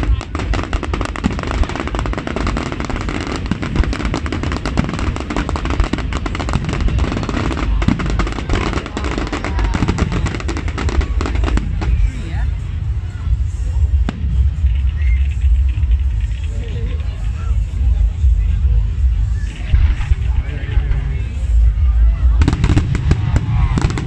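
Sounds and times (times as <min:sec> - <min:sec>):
fireworks bursting and crackling: 0:00.0 - 0:24.0
low rumble: 0:00.0 - 0:24.0.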